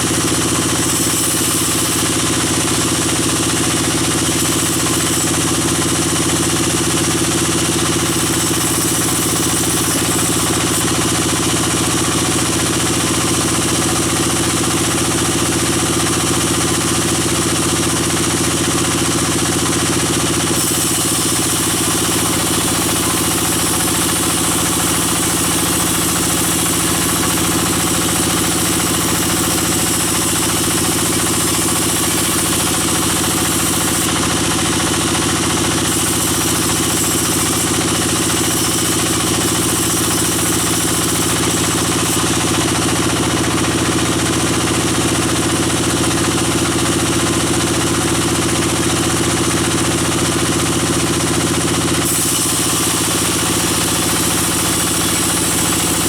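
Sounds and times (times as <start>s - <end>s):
band saw machinery drone: 0.0s - 44.6s, 51.5s - 56.0s.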